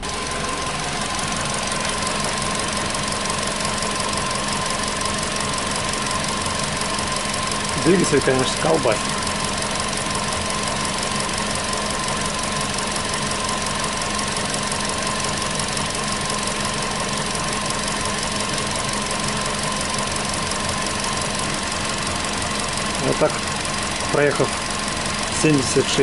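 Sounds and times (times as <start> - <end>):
car engine idling rough: 0.0 - 26.0.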